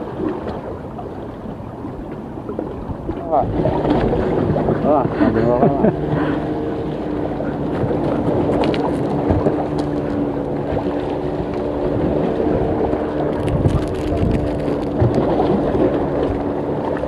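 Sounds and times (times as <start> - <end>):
boat engine droning: 0.0 - 17.0
waves: 0.0 - 17.0
wind buffeting microphone: 0.0 - 17.0.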